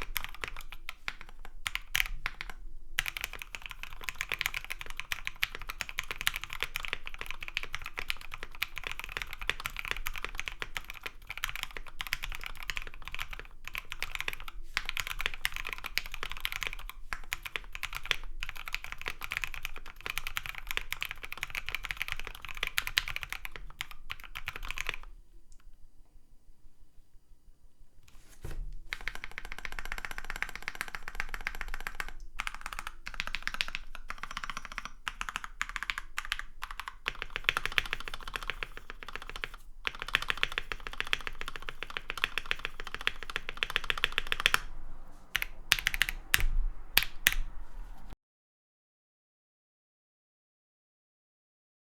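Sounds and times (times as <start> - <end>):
fast typing on mechanical keyboard: 0.0 - 25.1, 28.9 - 44.7, 45.3 - 47.5.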